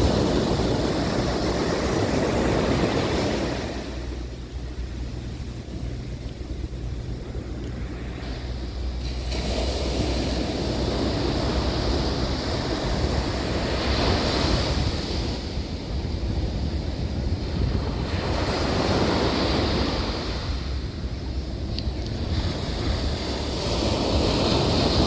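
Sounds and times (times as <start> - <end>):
ocean surf breaking: 0.0 - 25.0
wind rumble on microphone: 0.0 - 25.0.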